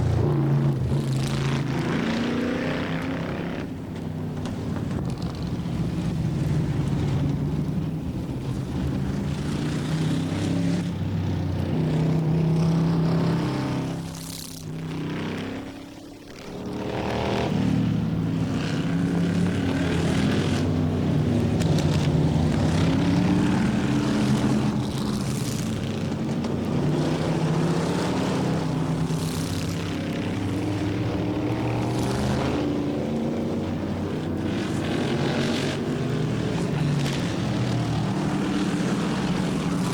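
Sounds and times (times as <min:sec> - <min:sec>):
race car engines running hard: 0:00.0 - 0:39.9.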